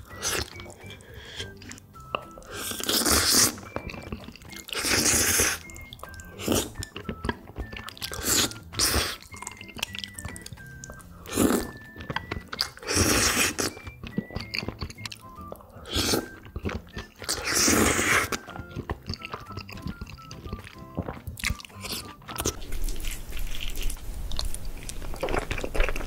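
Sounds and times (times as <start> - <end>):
chewing: 0.0 - 26.0
faint background music: 0.0 - 26.0
wet noodle slurping: 0.0 - 26.0.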